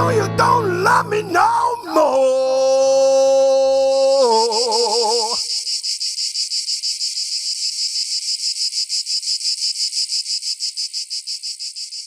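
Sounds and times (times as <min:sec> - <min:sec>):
cicadas buzzing: 0:00.4 - 0:12.0.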